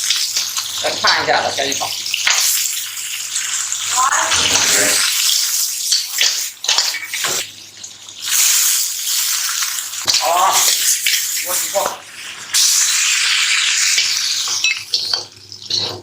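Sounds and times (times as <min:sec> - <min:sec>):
tap water running and splashing: 0:00.0 - 0:16.0.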